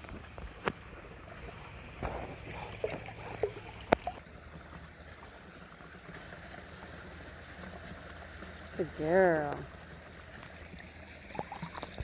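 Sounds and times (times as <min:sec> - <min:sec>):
water splashing and lapping: 0:00.0 - 0:12.0.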